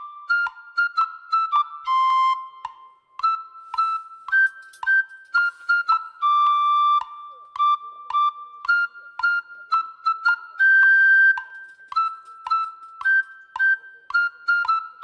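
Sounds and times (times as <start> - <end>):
light flute-like melody: 0.0 - 15.0.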